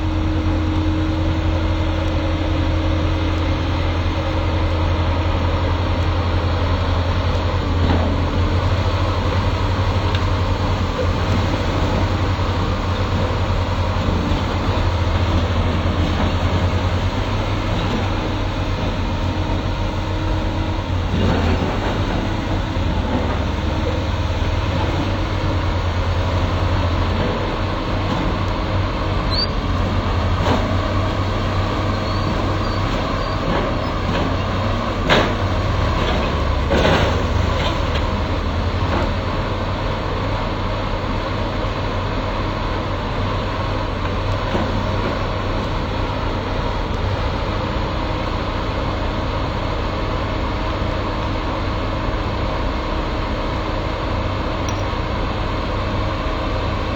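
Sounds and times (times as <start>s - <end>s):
excavator diesel engine drone: 0.0s - 56.9s.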